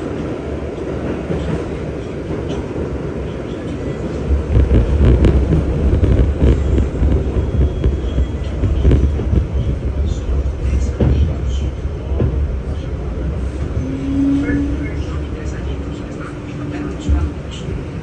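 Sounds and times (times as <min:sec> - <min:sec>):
subway train rumbling on track: 0:00.0 - 0:18.0.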